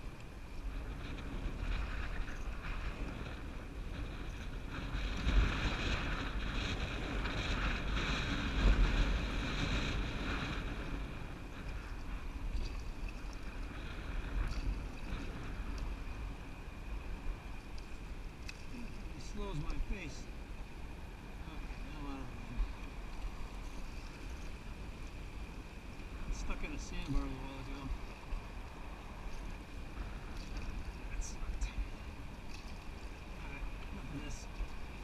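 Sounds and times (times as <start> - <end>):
water sounds from canoe: 0.0 - 35.0
wind buffeting microphone: 0.0 - 35.0.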